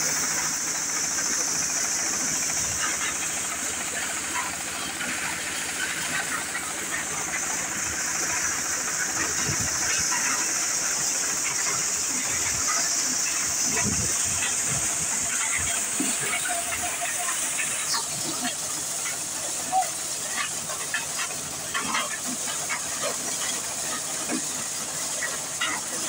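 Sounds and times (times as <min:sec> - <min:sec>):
engine drone: 0:00.0 - 0:26.0
thresher hiss: 0:00.0 - 0:26.0.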